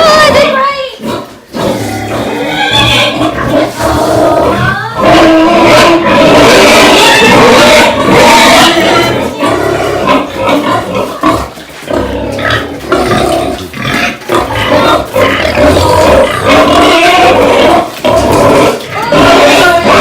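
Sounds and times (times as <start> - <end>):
pigs calling: 0.0 - 20.0.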